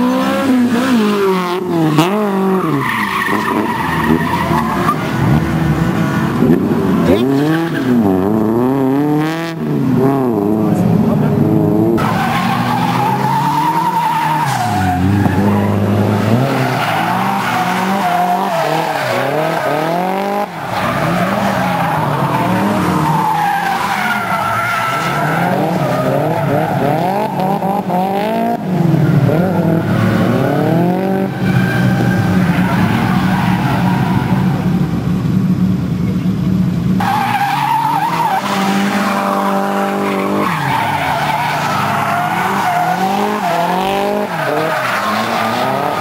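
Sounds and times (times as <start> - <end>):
car engines revving: 0.0 - 46.0
tyres skidding and squealing: 0.0 - 46.0.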